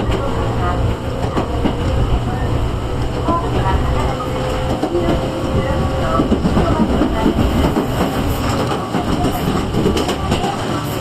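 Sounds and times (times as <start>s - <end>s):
electric train rumbling: 0.0s - 11.0s
train wheels clattering on rails: 0.0s - 11.0s.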